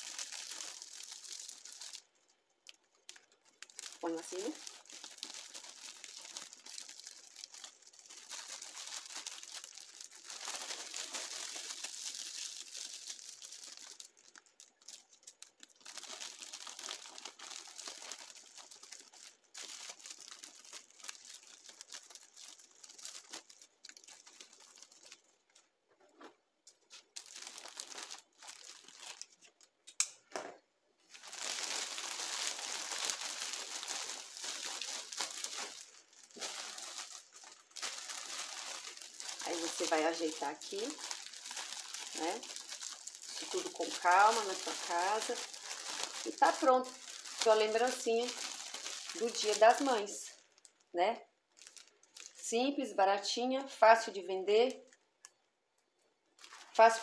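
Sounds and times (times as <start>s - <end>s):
cellophane bag crinkling: 0.0s - 29.8s, 31.1s - 52.5s, 56.4s - 57.0s.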